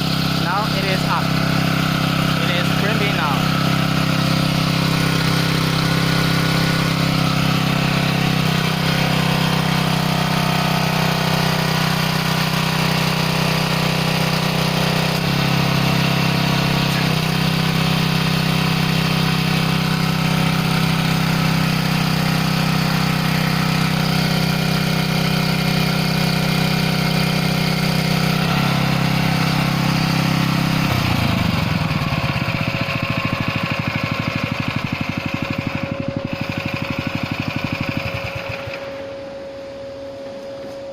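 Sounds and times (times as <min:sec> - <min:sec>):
gasoline engine running: 0:00.0 - 0:40.9.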